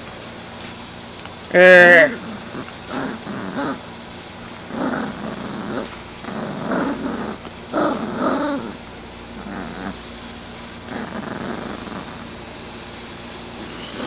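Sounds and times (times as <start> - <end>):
puppy growling in play: 0.6 - 14.0.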